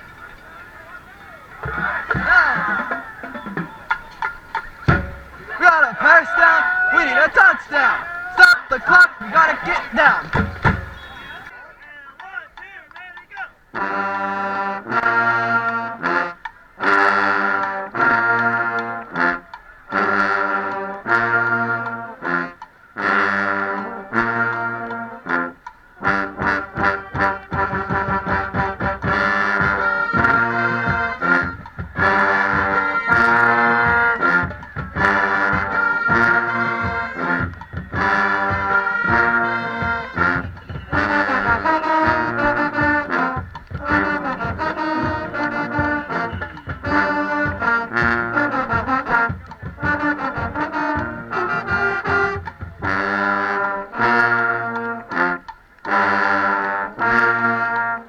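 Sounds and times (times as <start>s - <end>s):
marching band brass playing: 0.0s - 58.0s.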